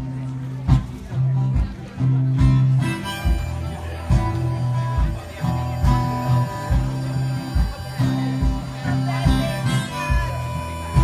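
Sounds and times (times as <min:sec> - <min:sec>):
bass line: 0:00.0 - 0:11.0
low drum beat: 0:00.0 - 0:11.0
strummed acoustic guitar: 0:00.0 - 0:11.0.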